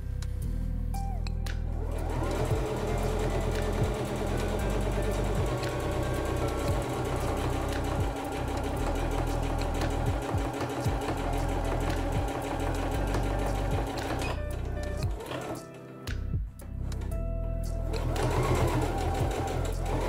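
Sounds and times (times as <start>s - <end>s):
sewing machine stitching: 1.8s - 15.8s, 17.9s - 20.0s.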